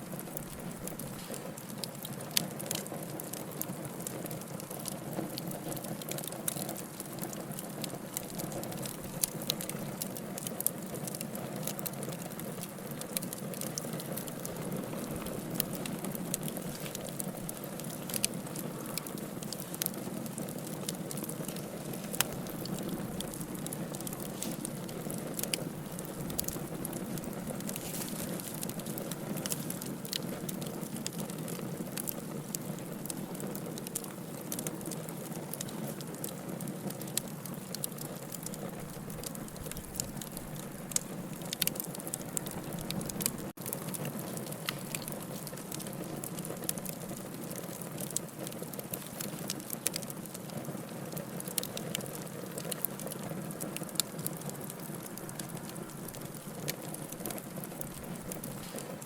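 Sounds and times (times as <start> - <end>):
fire crackling and popping: 0.0 - 59.0
wood fire burning: 0.0 - 59.0.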